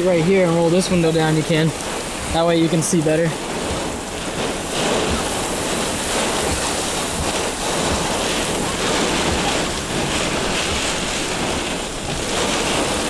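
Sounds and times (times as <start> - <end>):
heavy rain downpour: 0.0 - 13.0
wind buffeting microphone: 0.0 - 13.0.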